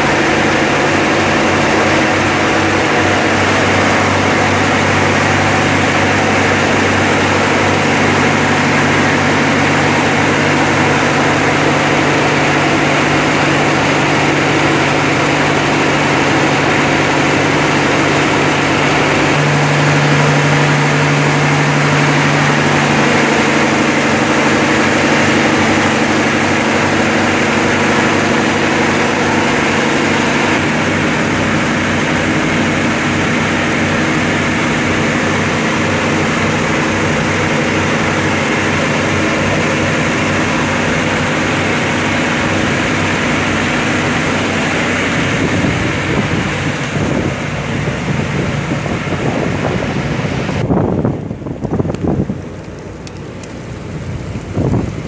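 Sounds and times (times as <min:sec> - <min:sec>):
marine diesel engines running: 0:00.0 - 0:55.0.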